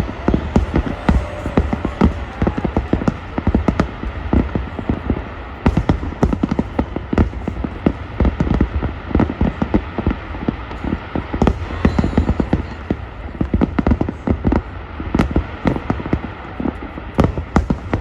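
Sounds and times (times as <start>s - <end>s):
fireworks bursts and bangs: 0.0s - 18.0s.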